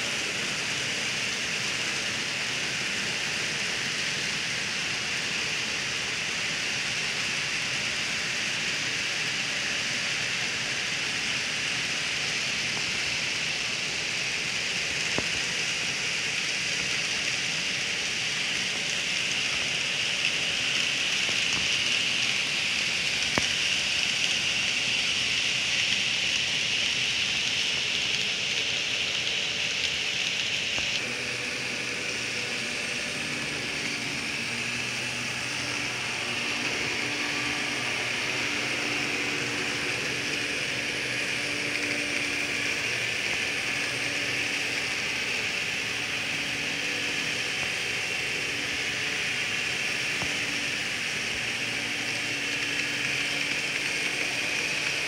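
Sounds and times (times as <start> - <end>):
faint wavering motor hum: 0.0 - 55.0
model train rolling hiss: 0.0 - 55.0.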